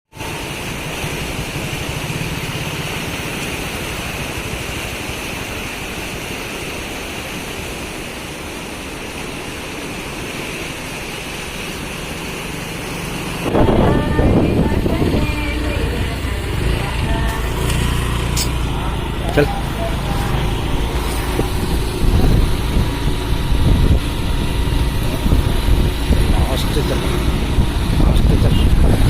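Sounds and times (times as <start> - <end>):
river water rushing: 0.1 - 29.0.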